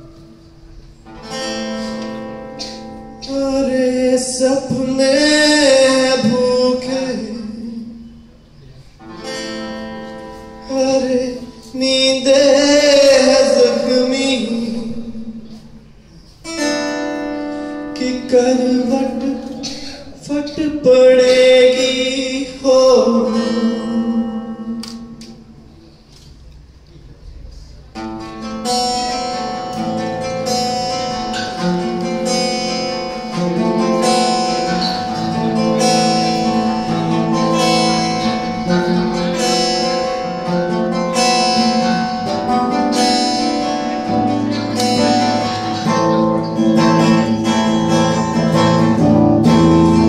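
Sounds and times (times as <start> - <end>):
acoustic guitars picking: 0.0 - 27.0, 27.6 - 50.0.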